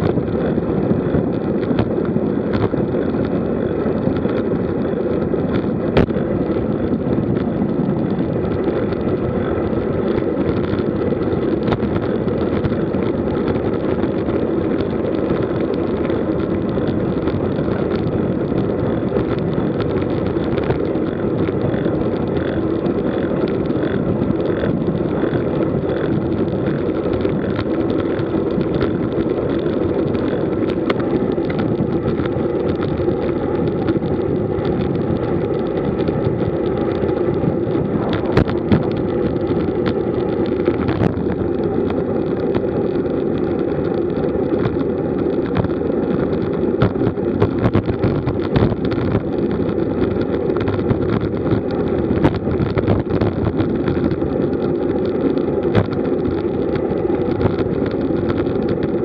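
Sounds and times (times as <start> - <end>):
tyres humming on asphalt: 0.0 - 59.0
wind rush on microphone: 0.0 - 59.0.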